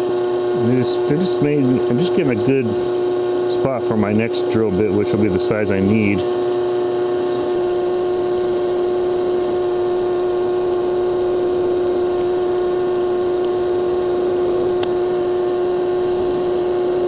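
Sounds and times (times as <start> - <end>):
drill press motor hum: 0.0 - 17.0.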